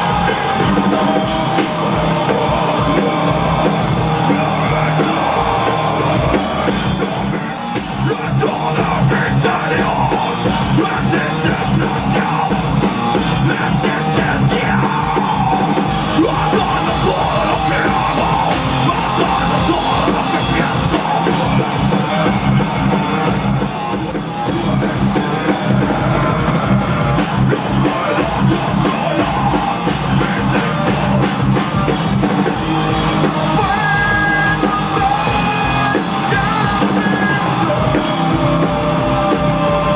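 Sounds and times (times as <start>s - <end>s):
shouted or sung vocals: 0.0s - 23.8s, 27.2s - 39.9s
bass guitar: 0.0s - 39.9s
distorted guitars: 0.0s - 39.9s
drum kit: 0.0s - 39.9s.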